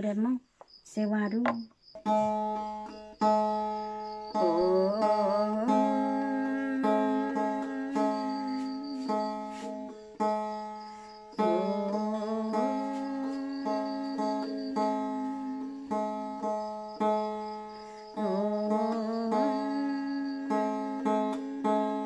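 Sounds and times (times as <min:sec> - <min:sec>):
plucked lute notes: 0:01.4 - 0:22.0.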